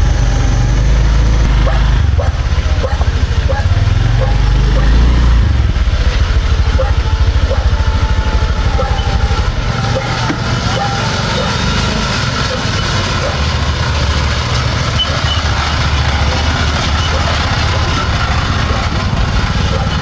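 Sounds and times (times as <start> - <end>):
motorcycle engine throbbing: 0.0 - 20.0.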